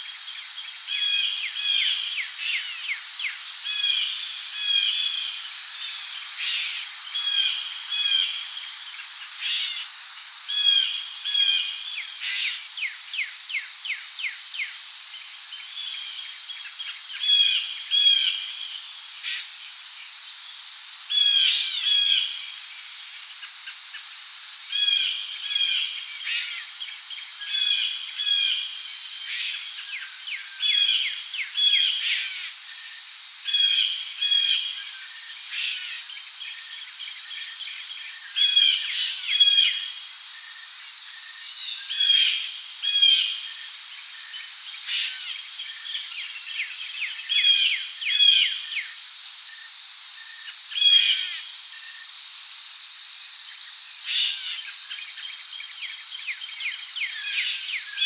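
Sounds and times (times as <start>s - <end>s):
crickets and insects droning: 0.0s - 58.0s.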